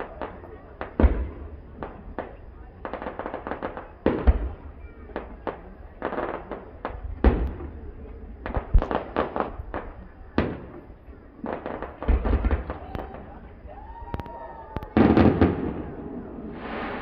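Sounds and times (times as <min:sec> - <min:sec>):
fireworks bangs and crackles: 0:00.0 - 0:17.0
fireworks booms: 0:00.0 - 0:17.0.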